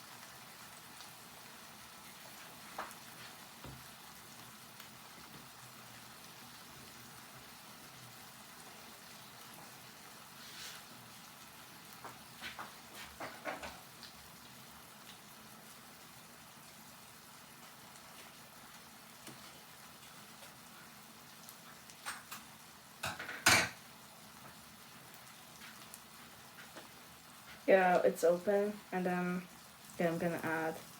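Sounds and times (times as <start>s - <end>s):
frying hiss: 0.0s - 30.9s.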